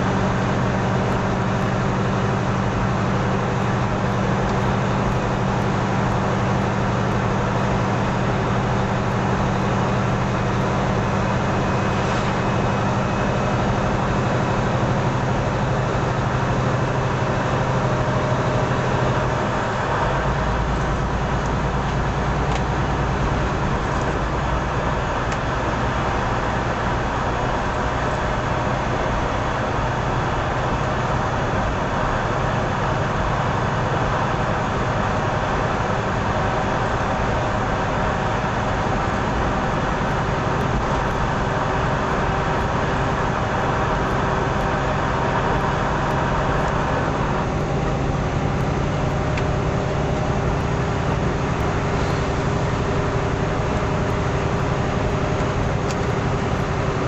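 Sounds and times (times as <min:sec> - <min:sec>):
engine drone: 0:00.0 - 0:57.0
road noise inside truck cab: 0:00.0 - 0:57.0.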